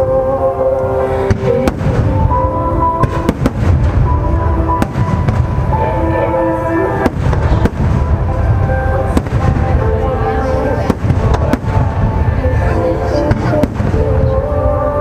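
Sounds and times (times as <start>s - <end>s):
loud music: 0.0s - 15.0s
fireworks cracks and bangs: 1.2s - 5.8s, 6.9s - 14.5s
low rumble of booms: 1.3s - 5.8s, 7.0s - 14.7s.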